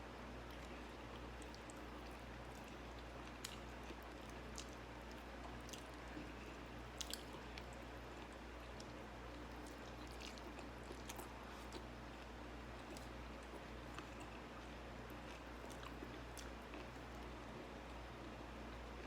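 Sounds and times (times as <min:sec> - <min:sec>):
steady low hum: 0:00.0 - 0:19.0
person chewing: 0:00.4 - 0:17.7.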